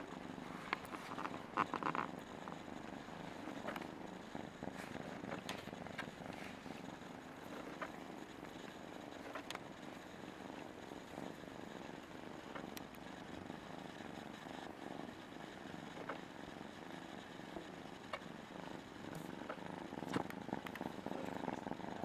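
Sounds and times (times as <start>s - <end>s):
kitten purring: 0.0s - 22.0s.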